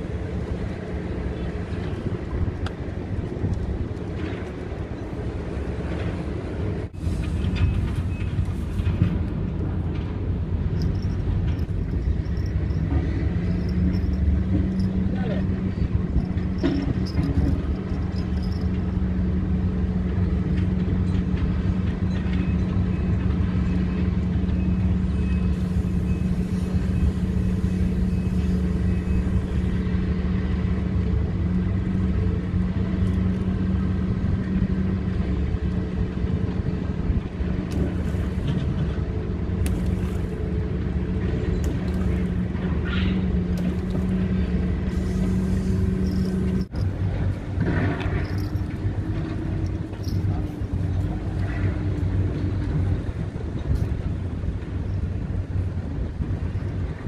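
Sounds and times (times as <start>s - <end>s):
low engine hum with rumble: 0.0s - 57.0s.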